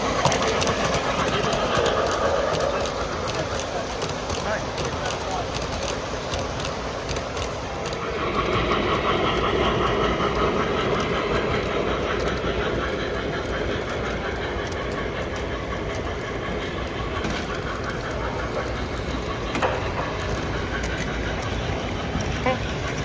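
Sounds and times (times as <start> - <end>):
model train rolling on track: 0.0 - 23.0.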